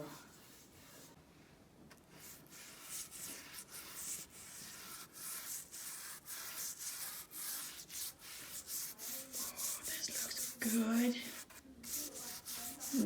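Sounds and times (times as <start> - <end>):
paintbrush scrubbing on rough wood: 0.0 - 1.2, 2.2 - 13.0.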